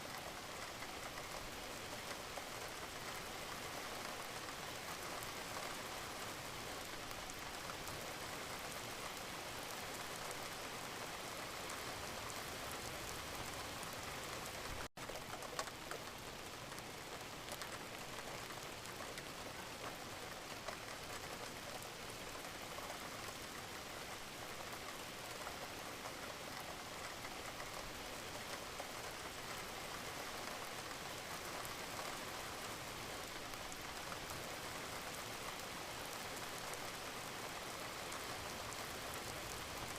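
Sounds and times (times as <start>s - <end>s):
steady rain hissing: 0.0s - 39.9s
raindrop ticks: 0.1s - 5.9s, 11.7s - 39.9s.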